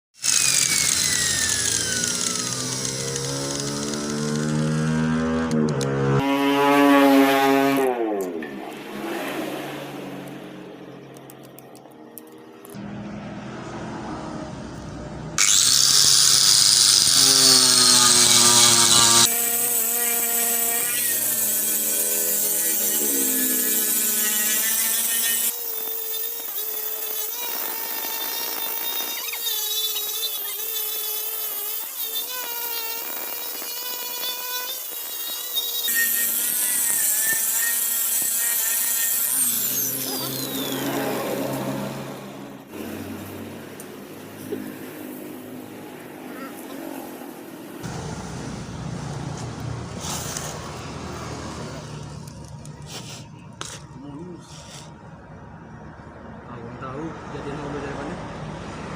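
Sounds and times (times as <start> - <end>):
electric grinder grinding metal: 0.1 - 13.8, 14.7 - 55.0.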